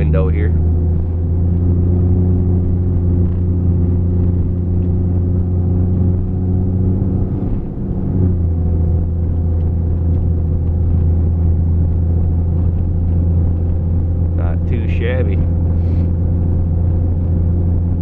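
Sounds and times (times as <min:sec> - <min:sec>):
engine droning inside cab: 0:00.0 - 0:18.0.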